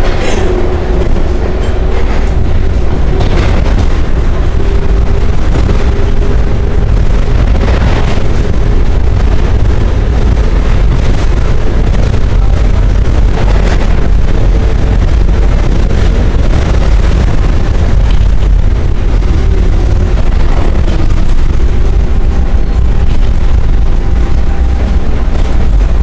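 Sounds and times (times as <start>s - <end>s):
subway wheels rumbling on rails: 0.0s - 26.0s.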